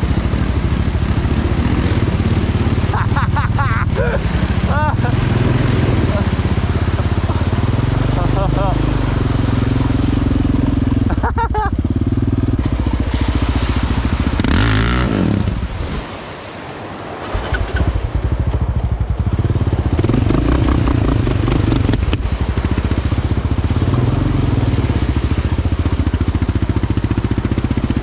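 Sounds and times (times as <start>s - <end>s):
quad bike engine revving: 0.0s - 16.0s, 17.2s - 28.0s.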